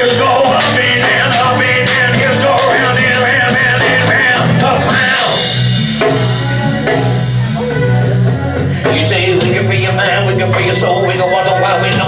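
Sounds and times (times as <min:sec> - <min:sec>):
bass: 0:00.0 - 0:12.0
steady drum beat: 0:00.0 - 0:12.0
wavering lead guitar line: 0:00.0 - 0:12.0.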